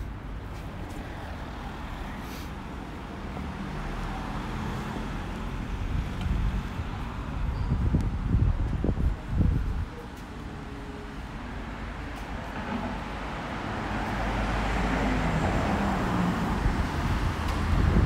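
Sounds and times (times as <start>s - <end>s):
low road rumble: 0.0s - 18.0s.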